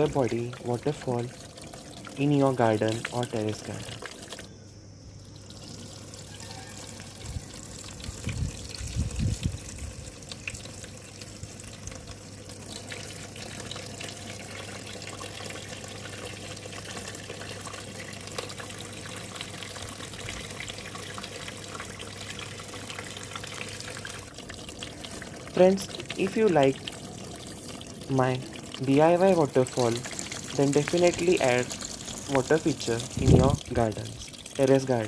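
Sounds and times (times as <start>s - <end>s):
small waterfall splashing: 0.0s - 4.5s, 6.4s - 35.0s.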